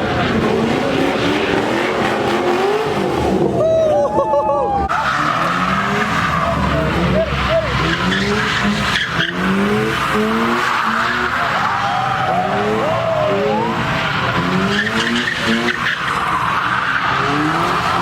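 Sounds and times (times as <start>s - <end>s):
car engine revving: 0.0s - 3.6s, 4.9s - 18.0s
tyres squealing on pavement: 3.4s - 18.0s.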